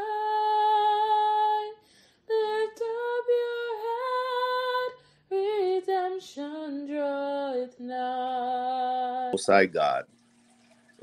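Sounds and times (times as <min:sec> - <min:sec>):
woman singing gospel song: 0:00.0 - 0:09.4.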